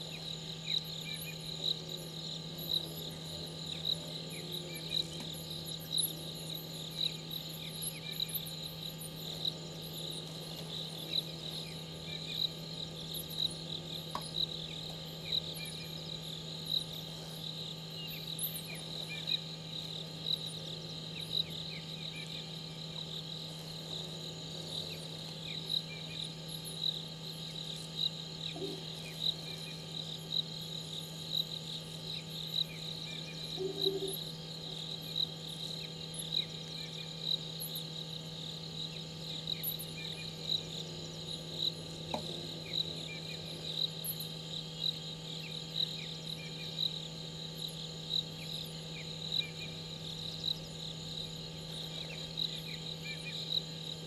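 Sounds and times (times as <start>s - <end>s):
low hum: 0.0s - 53.0s
crickets chirping: 0.0s - 54.0s.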